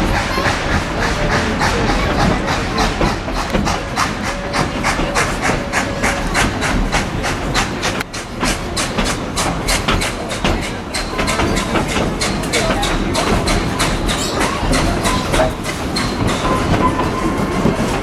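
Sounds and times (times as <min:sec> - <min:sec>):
cars rumbling on rails: 0:00.0 - 0:18.0
steam locomotive chuffing: 0:00.0 - 0:18.0.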